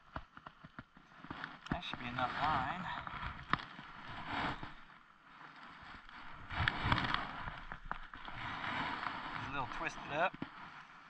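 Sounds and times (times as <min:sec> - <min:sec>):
rustling of gloved hands: 0:00.0 - 0:11.0.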